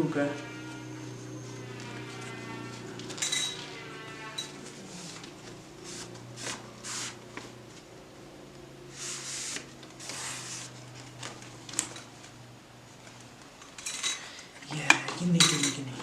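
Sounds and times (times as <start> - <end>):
metal rods rustling and scraping: 0.0 - 7.9, 8.9 - 16.0.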